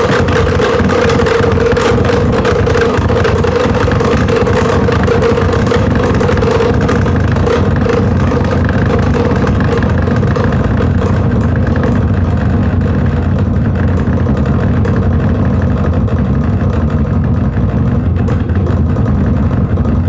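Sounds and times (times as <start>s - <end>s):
simulated engine running: 0.0s - 20.0s.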